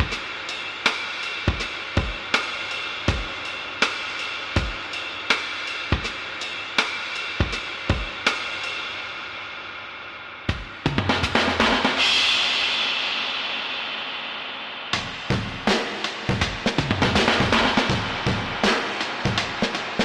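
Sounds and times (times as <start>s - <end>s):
drum kit beat: 0.0s - 9.2s, 10.5s - 14.3s, 14.9s - 20.0s.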